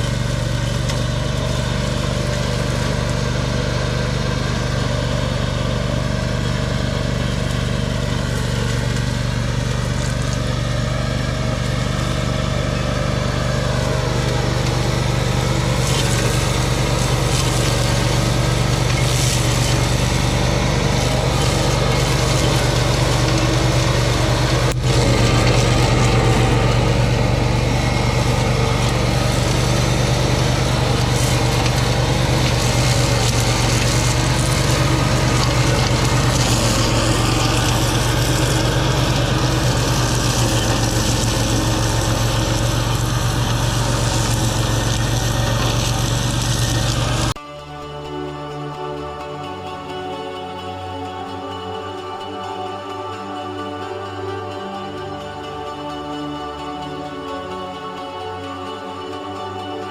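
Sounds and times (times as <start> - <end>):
tractor engine with flail mower: 0.0 - 59.9.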